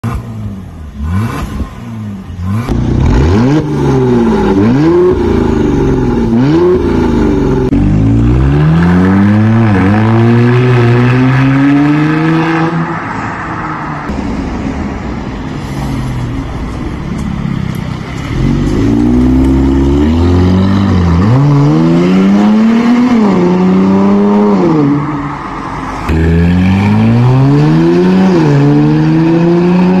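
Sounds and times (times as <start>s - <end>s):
car engine revving: 0.0s - 14.4s, 17.7s - 30.0s.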